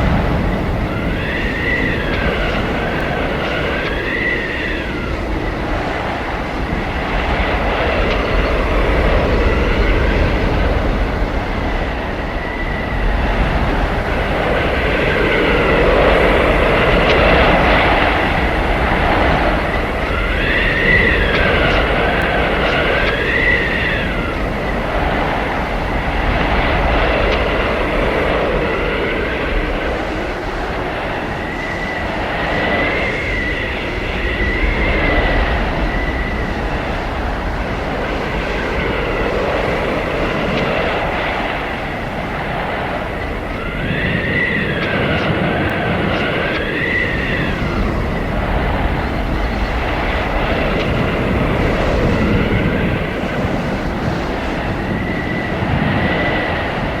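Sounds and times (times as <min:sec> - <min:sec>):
howling blizzard wind: 0:00.0 - 0:57.0.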